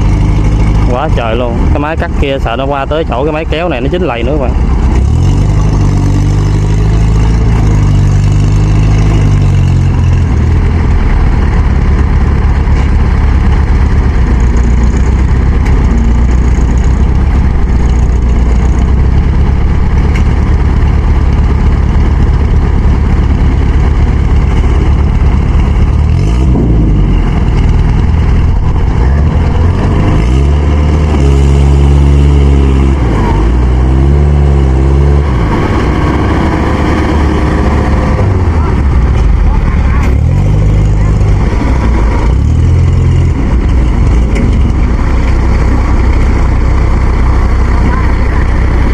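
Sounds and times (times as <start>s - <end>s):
heavy machinery engines revving: 0.0s - 48.9s.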